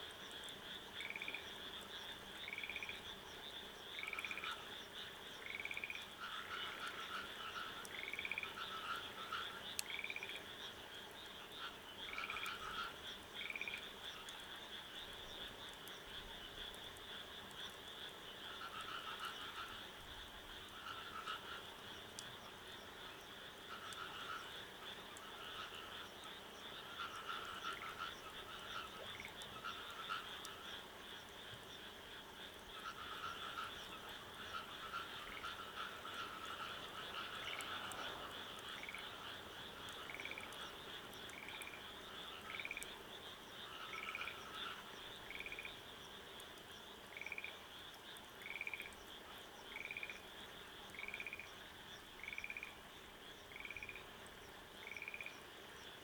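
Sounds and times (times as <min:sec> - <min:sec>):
frogs calling: 0:00.2 - 0:56.0.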